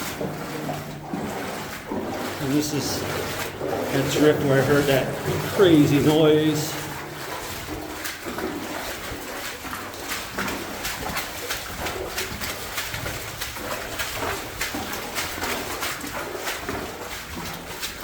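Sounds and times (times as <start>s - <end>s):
boots splashing through water: 0.0s - 18.0s.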